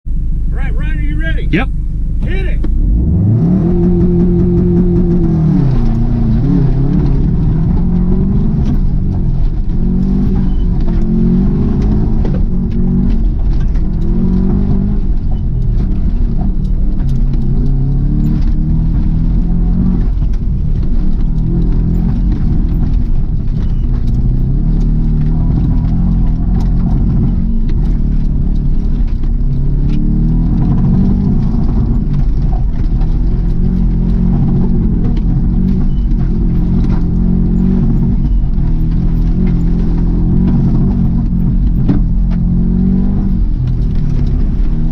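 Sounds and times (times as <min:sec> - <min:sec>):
car engine revving hard: 0:00.8 - 0:44.9.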